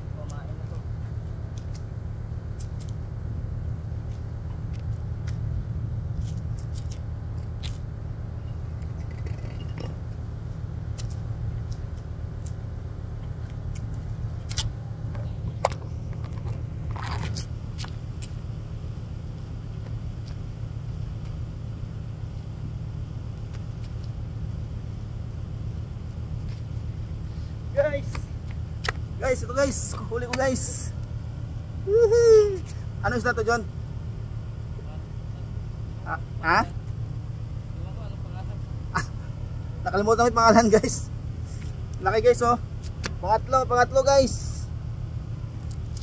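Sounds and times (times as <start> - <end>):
low machine hum: 0.0 - 46.0.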